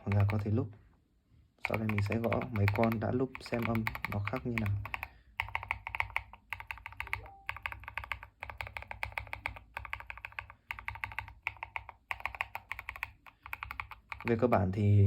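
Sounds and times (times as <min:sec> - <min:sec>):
fast keyboard typing clacks: 0:00.0 - 0:00.5, 0:01.6 - 0:14.5.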